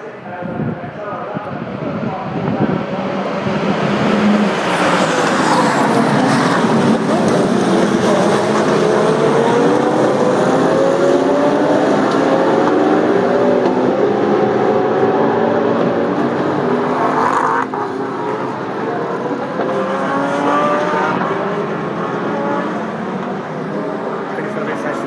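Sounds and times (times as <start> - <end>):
race car engines accelerating: 0.0 - 25.0.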